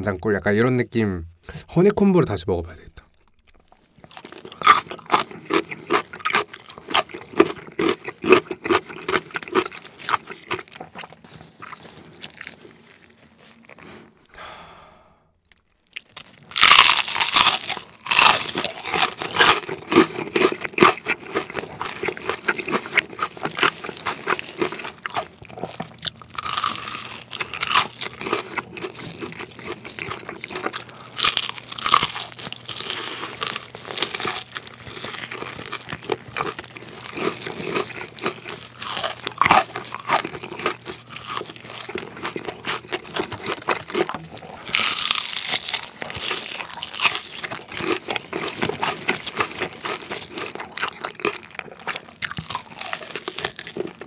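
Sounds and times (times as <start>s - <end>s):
crunching and chewing fried chicken: 3.0s - 14.3s, 15.4s - 54.0s.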